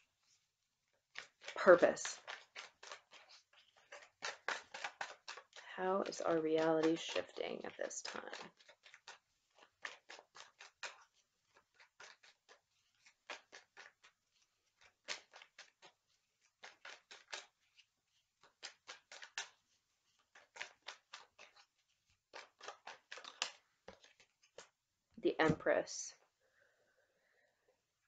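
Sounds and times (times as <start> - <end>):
cards being shuffled: 1.1 - 24.8.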